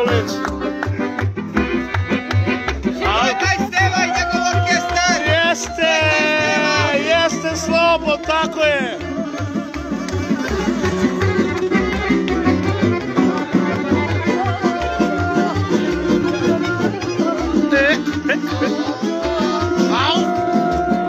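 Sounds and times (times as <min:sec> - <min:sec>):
lively folk dance music: 0:00.0 - 0:21.0.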